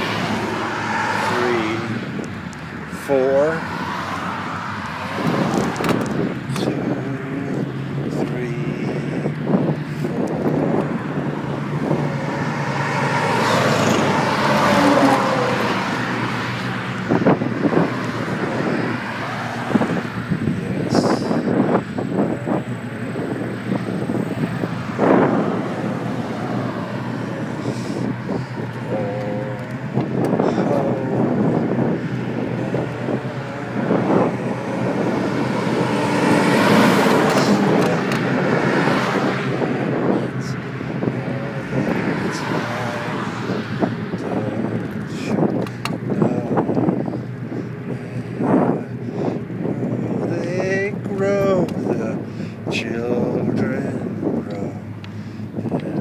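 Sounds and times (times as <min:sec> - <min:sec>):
motor vehicle passing: 0:00.0 - 0:06.9, 0:09.1 - 0:47.8
wind and road noise from bicycle: 0:00.0 - 0:56.0.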